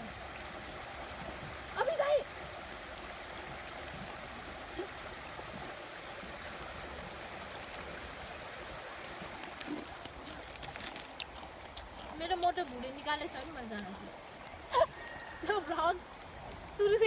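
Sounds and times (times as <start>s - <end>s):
creek water rushing over stones: 0.0s - 17.0s.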